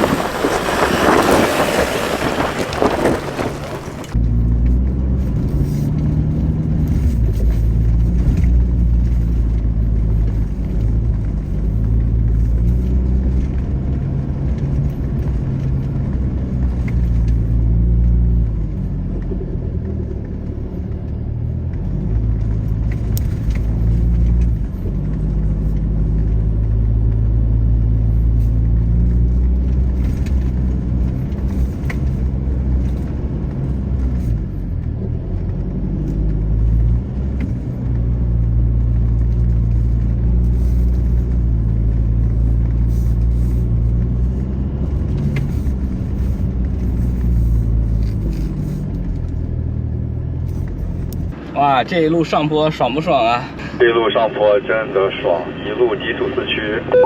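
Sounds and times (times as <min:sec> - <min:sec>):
car engine working under load: 0:00.0 - 0:57.0.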